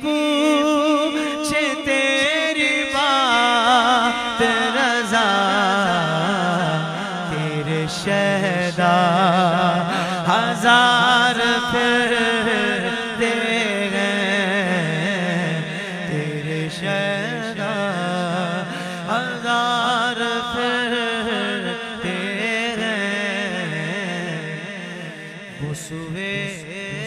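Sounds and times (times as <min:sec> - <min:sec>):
person singing devotional verse: 0:00.0 - 0:27.0.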